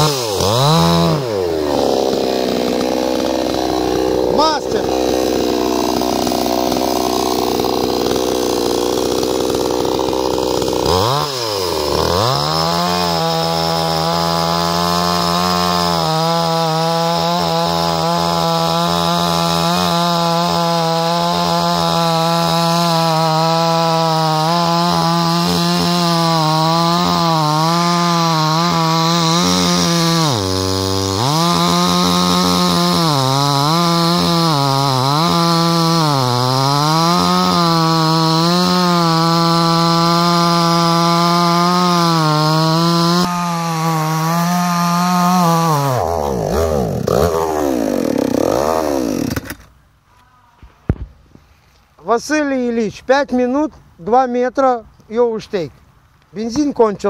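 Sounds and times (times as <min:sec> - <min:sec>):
chainsaw cutting log: 0:00.0 - 0:49.8.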